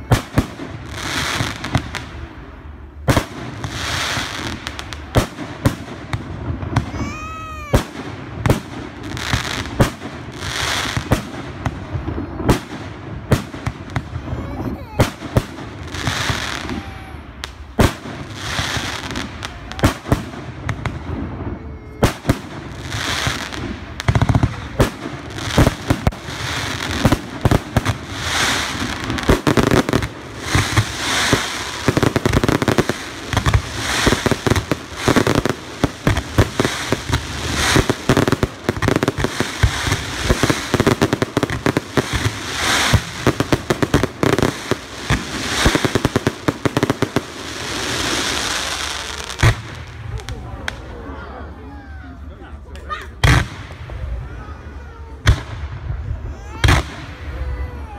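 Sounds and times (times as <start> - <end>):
fireworks crackling and popping: 0.0 - 51.6, 52.6 - 57.9.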